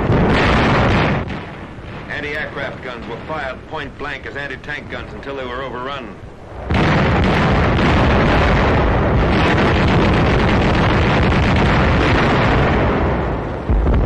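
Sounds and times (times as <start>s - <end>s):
gunfire and explosions: 0.0s - 14.0s.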